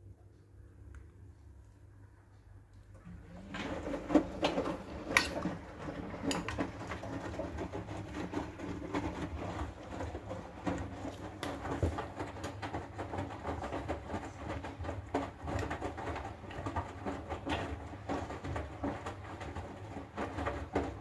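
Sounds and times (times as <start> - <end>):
washing machine drum turning: 2.9 - 21.0
wet laundry tumbling and splashing: 3.0 - 21.0.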